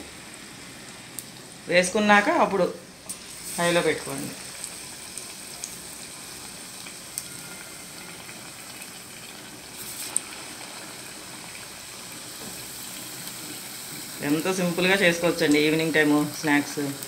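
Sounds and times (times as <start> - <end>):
leaves deep-frying in hot oil: 0.0 - 17.0.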